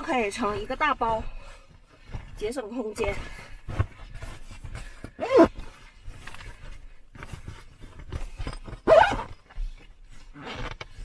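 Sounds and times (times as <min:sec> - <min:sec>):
fabric rustling and scraping: 0:00.0 - 0:11.0.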